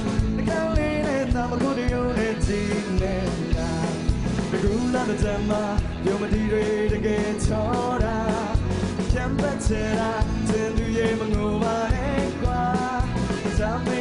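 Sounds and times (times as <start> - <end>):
rock band playing: 0.0 - 14.0
man singing: 0.1 - 14.0.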